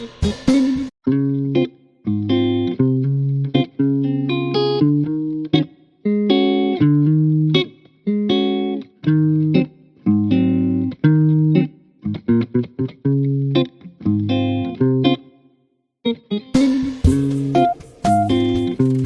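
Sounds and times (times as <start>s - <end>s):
plucked guitar chords: 0.2s - 19.0s.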